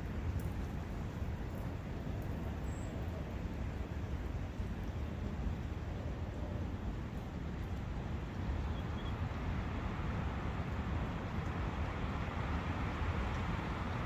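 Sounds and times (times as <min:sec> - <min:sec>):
brook flowing: 0:00.0 - 0:14.0
wind: 0:00.0 - 0:14.0.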